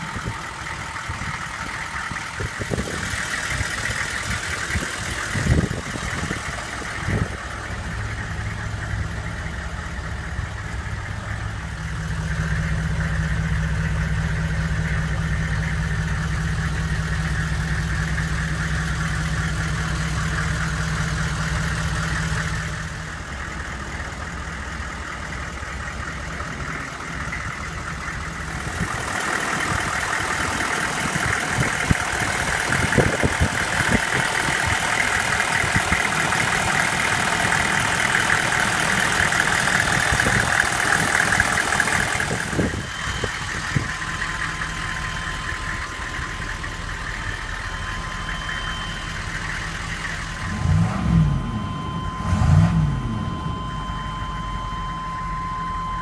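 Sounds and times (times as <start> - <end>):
engine knocking clatter: 0.0 - 50.8
diesel engine idling: 0.0 - 56.0.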